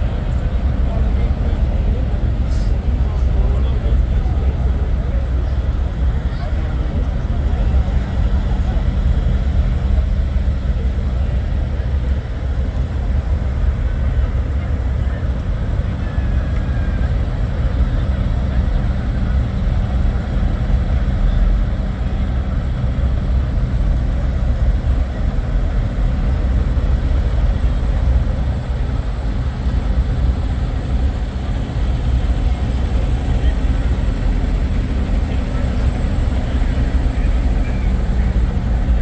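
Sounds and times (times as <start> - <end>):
diesel truck engines idling: 0.0 - 39.0.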